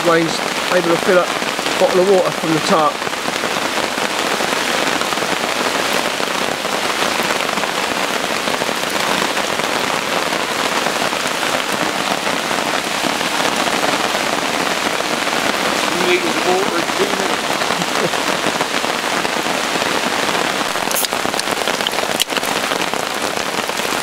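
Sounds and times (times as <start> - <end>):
heavy rain on a tarp: 0.0 - 24.0.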